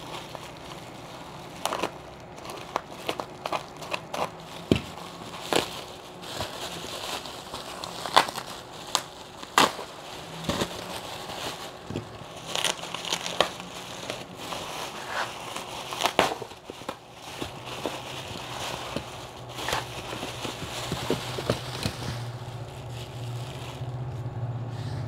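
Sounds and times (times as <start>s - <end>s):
bubble wrap cracks: 0.0s - 24.3s
bubble wrap crinkling: 0.0s - 24.3s.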